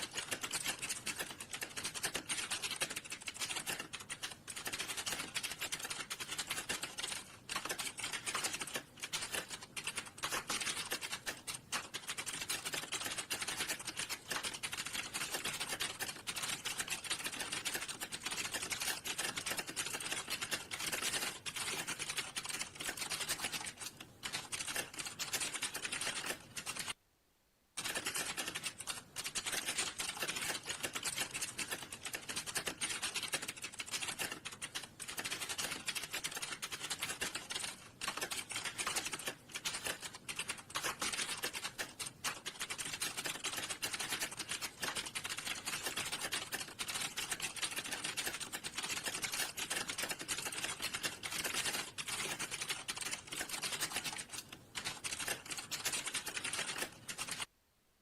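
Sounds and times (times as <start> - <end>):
fast keyboard typing: 0.0 - 27.0, 27.8 - 57.5.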